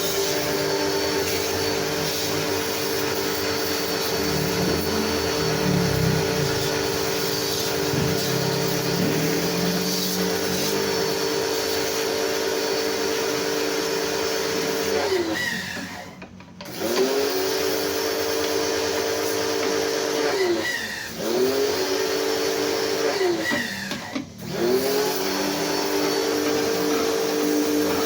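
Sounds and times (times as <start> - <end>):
electric motor machine running: 0.0 - 28.0.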